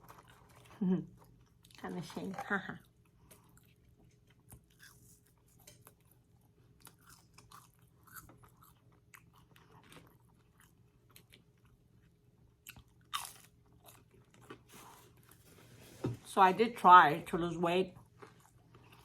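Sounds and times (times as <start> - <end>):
faint crunchy chewing: 0.0 - 16.0, 17.9 - 19.0.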